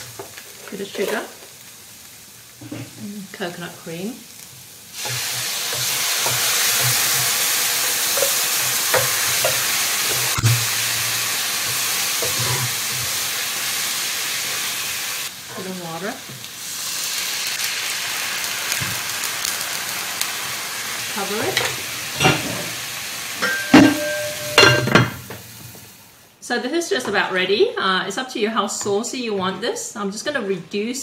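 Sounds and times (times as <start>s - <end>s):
mushrooms sizzling in oil: 0.0s - 29.2s.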